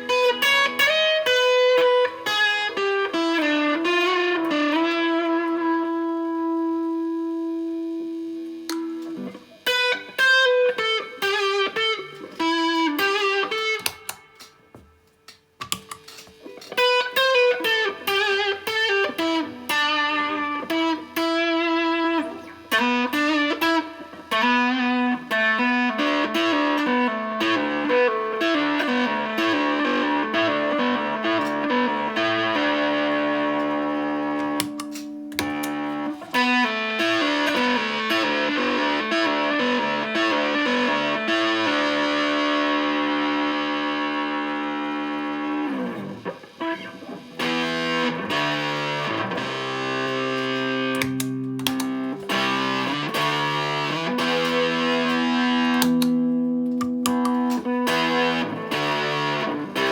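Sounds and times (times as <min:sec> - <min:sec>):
fuzzy electric guitar: 0:00.0 - 0:59.9.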